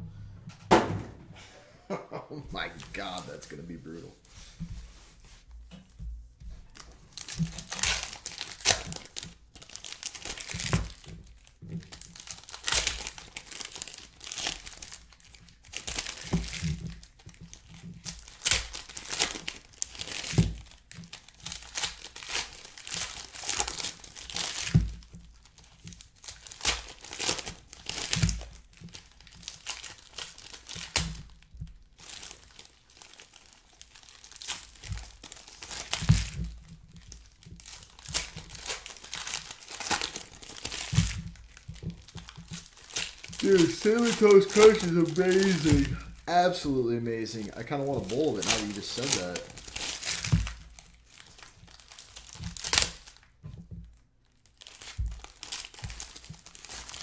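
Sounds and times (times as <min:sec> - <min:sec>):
card pack wrappers tearing: 0:02.6 - 0:04.1, 0:06.8 - 0:31.4, 0:32.0 - 0:53.3, 0:54.5 - 0:57.0.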